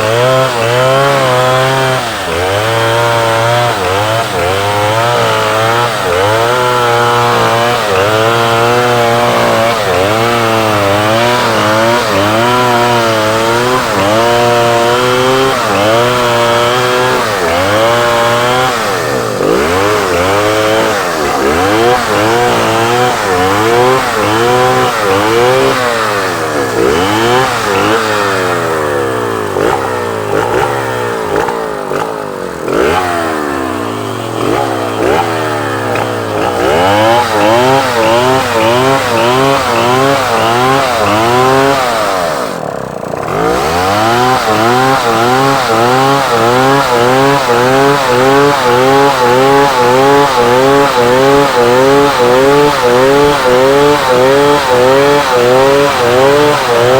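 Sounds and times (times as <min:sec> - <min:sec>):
chainsaws revving: 0:00.0 - 0:56.9.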